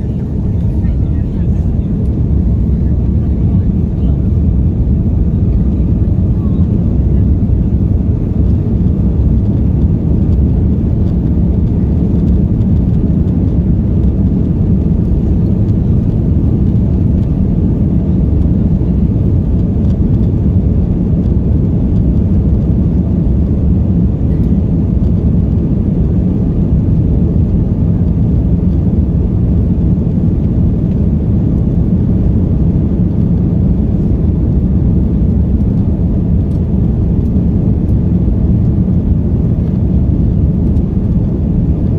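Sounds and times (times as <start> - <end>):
jet cabin low rumble: 0.0 - 41.9.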